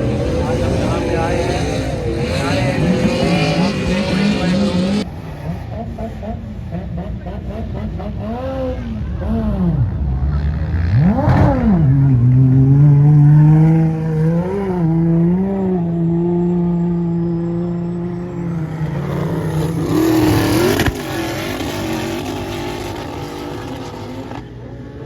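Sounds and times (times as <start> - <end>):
engine revving: 0.0 - 24.6.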